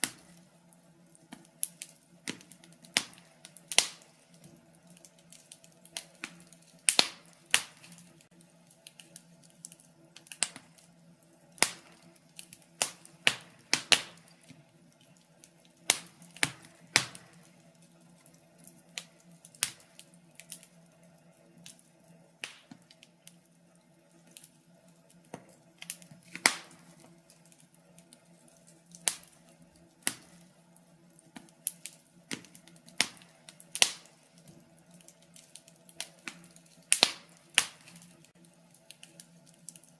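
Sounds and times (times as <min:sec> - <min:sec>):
sharp pops and snaps: 0:00.0 - 0:11.0, 0:11.6 - 0:20.8, 0:22.4 - 0:23.4, 0:24.2 - 0:30.6, 0:31.2 - 0:39.9
wood fire crackling: 0:00.0 - 0:39.9.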